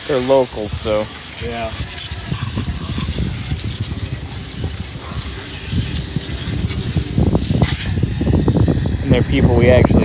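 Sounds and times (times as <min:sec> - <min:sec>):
pressure washer spraying water: 0:00.0 - 0:10.0.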